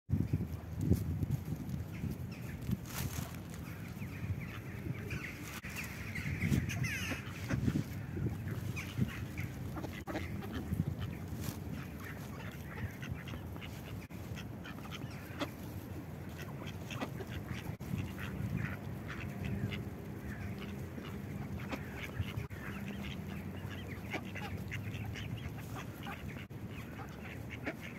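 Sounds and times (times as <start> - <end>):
ducks quacking: 2.0 - 27.9.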